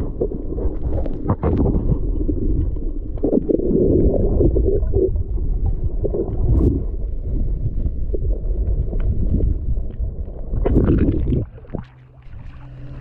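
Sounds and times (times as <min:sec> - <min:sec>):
bubbling and gurgling: 0:00.0 - 0:13.0
muffled underwater rush: 0:00.0 - 0:13.0.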